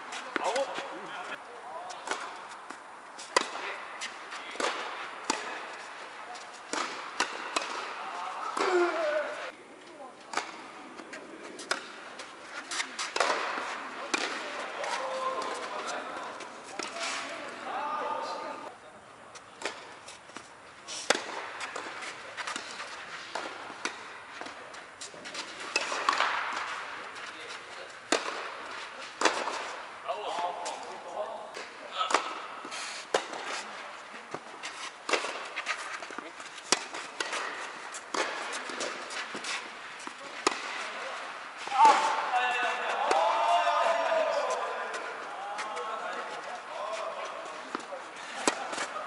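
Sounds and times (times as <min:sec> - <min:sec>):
racquets striking tennis ball: 0:00.0 - 0:09.5, 0:10.2 - 0:17.6, 0:19.4 - 0:49.0.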